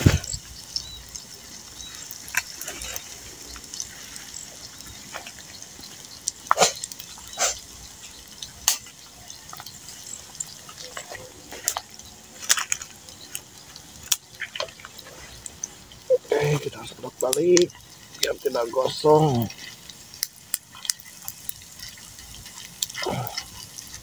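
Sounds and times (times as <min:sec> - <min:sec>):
leaves sizzling in oil: 0:00.0 - 0:24.0
oil popping and crackling: 0:00.0 - 0:24.0.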